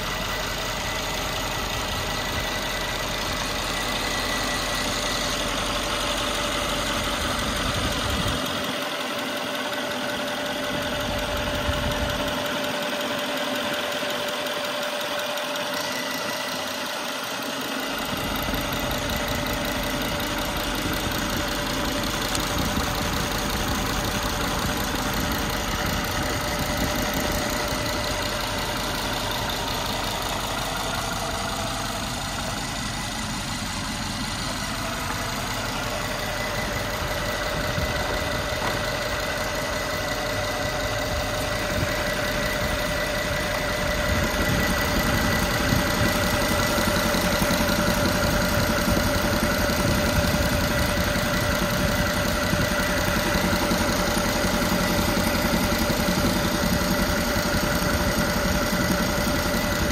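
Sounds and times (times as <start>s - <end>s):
car engine idling with whine: 0.0s - 59.9s.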